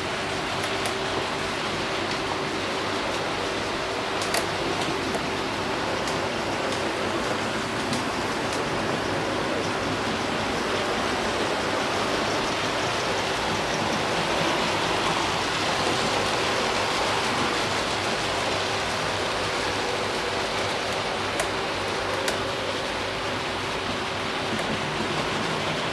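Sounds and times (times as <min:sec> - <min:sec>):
faint steady hum: 0:00.0 - 0:25.9
model train running on track: 0:00.0 - 0:25.9.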